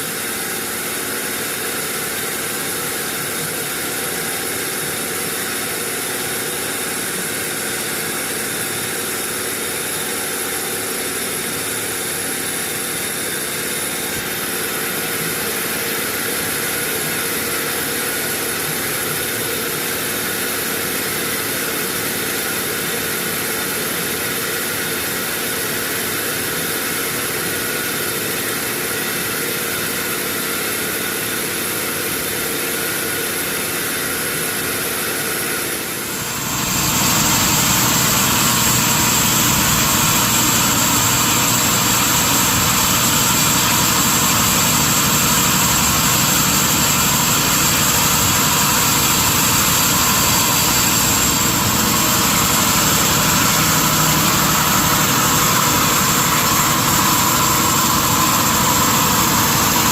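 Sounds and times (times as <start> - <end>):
sawmill machinery hum and whine: 0.0 - 59.9.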